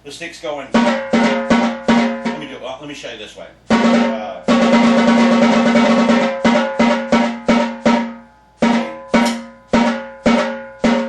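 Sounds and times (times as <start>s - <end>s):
snare drum strokes: 0.7s - 2.6s, 3.7s - 11.0s.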